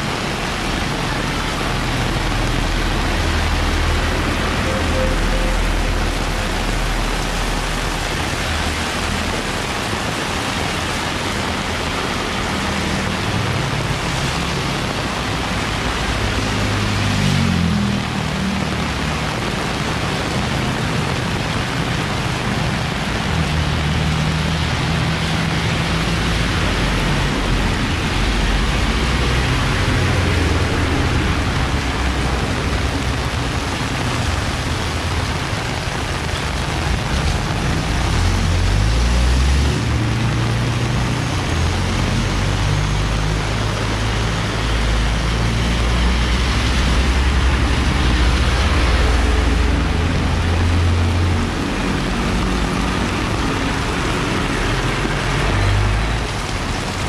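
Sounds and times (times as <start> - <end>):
heavy rain falling: 0.0 - 57.0
vehicle engines humming: 0.0 - 57.0.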